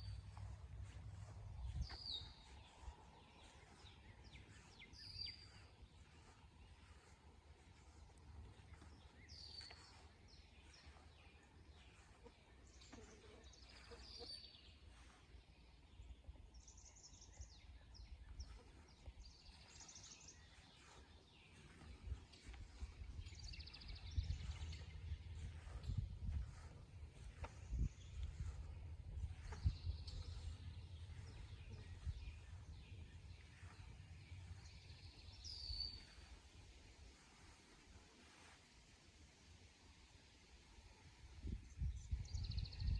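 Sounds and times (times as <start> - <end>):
songbirds singing and calling: 0.0 - 42.9.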